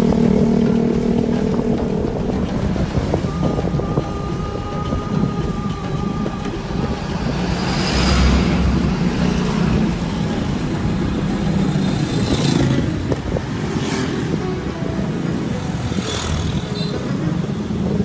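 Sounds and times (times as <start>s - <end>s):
motorcycle running: 0.0s - 18.0s
truck passing: 0.0s - 18.0s
vehicles passing: 0.0s - 18.0s.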